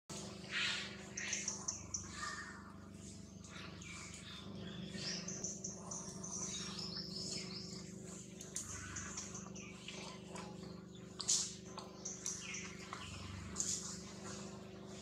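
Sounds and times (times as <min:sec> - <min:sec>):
small birds chirping: 0:00.1 - 0:15.0
steady low hum: 0:00.1 - 0:15.0.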